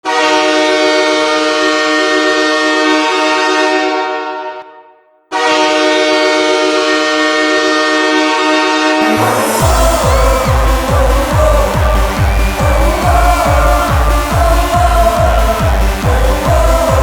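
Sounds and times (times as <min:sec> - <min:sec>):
locomotive air horn blasts: 0:00.0 - 0:17.0.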